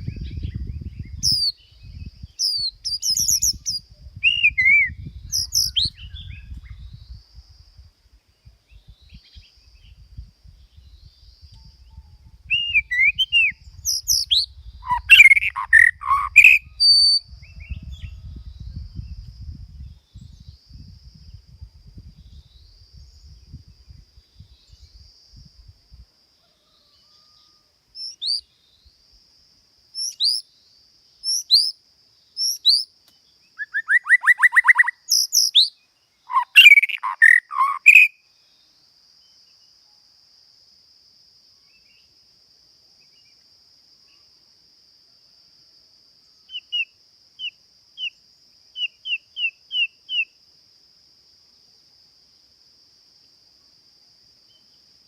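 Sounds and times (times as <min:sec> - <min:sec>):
songbird singing: 0:00.0 - 0:29.2, 0:29.8 - 0:40.1, 0:41.5 - 0:42.3, 0:42.9 - 0:44.4, 0:46.1 - 0:50.4, 0:54.2 - 0:55.0
faint high insect drone: 0:00.0 - 0:55.0.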